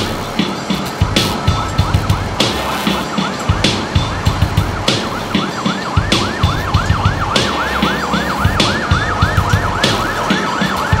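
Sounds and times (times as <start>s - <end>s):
drum beat with kick and crash: 0.0s - 11.0s
yelp emergency siren: 1.6s - 11.0s.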